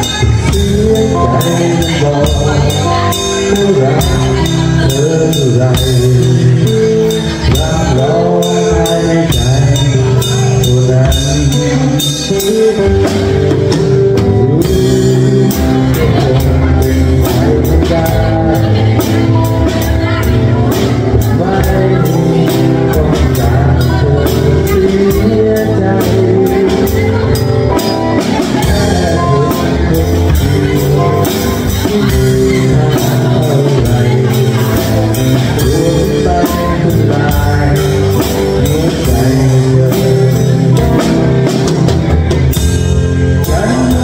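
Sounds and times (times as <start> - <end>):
bass guitar: 0.0 - 44.0
drum kit with cymbals: 0.0 - 44.0
electric guitar: 0.0 - 44.0
person singing: 0.0 - 44.0.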